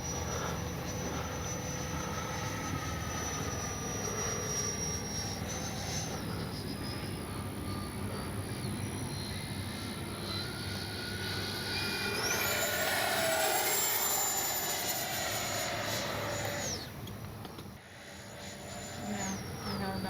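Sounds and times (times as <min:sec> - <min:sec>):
electric ducted fan jet whining: 0:00.0 - 0:20.0.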